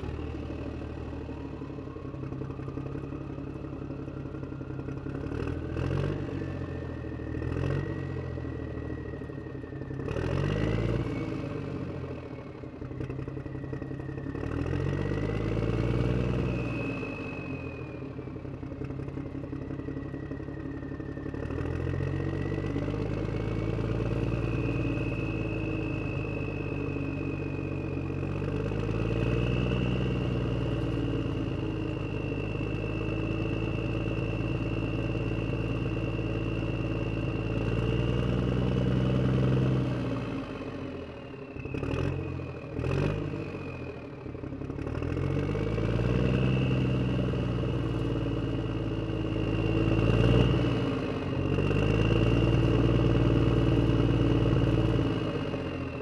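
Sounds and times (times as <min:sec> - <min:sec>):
rising whine: 0:00.0 - 0:56.0
engine revving: 0:05.0 - 0:09.1, 0:09.8 - 0:12.4, 0:13.0 - 0:18.2, 0:20.5 - 0:56.0.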